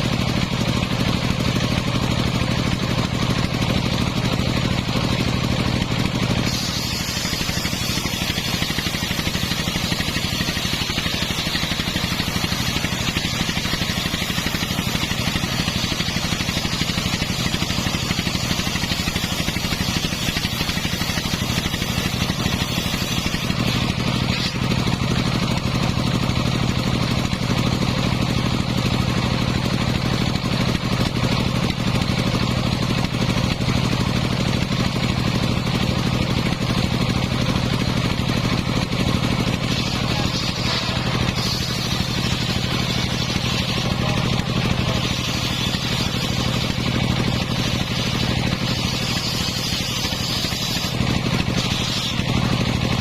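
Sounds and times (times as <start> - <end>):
sawmill engine running: 0.0 - 53.0
saw blade hissing through log: 0.3 - 26.2, 33.6 - 53.0.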